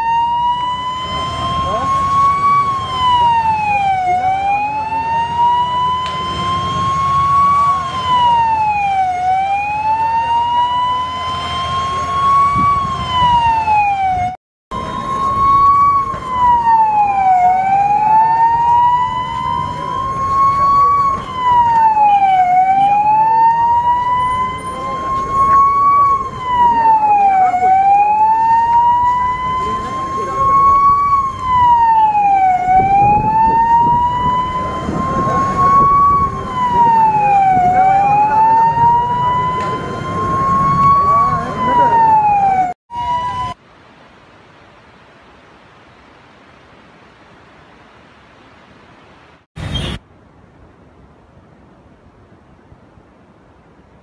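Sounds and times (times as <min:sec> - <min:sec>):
fire engine siren wailing: 0:00.0 - 0:43.6.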